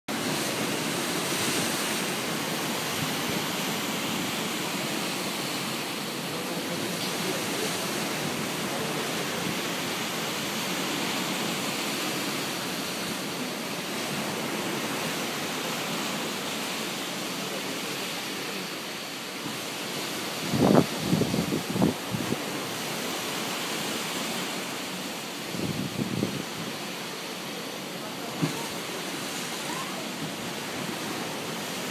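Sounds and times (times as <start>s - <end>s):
waves washing on shore: 0.1s - 31.9s.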